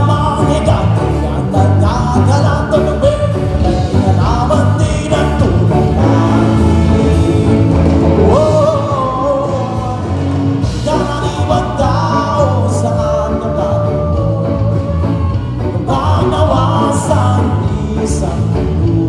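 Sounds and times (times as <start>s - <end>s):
amplified band music: 0.0s - 19.0s
bass line: 0.0s - 19.0s
person singing: 0.0s - 19.0s.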